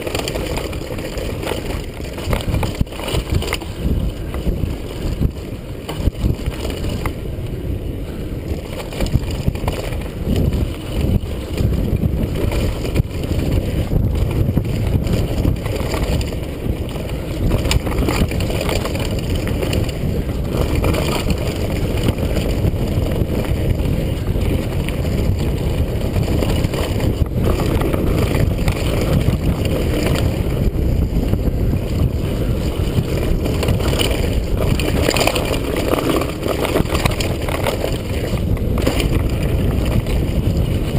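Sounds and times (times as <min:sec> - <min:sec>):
bike knocks and rattles: 0:00.0 - 0:40.9
bike tyres rumbling on dirt: 0:00.0 - 0:40.9
wind rushing over helmet: 0:00.0 - 0:40.9.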